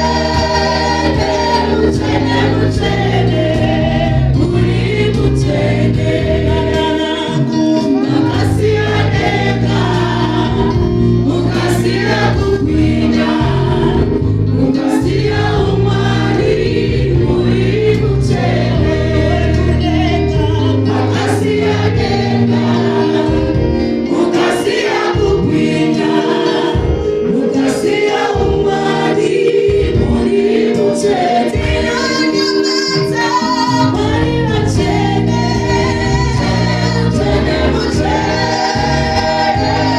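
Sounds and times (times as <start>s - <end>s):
group singing: 0.0s - 39.9s
woman singing into microphone: 0.0s - 39.9s.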